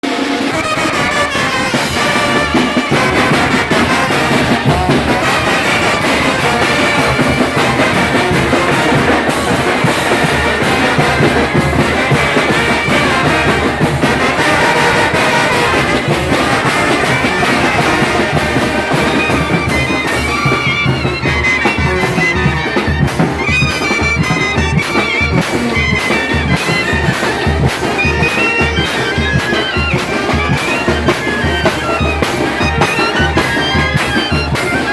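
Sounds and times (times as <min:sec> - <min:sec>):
brass band playing: 0:00.0 - 0:34.9.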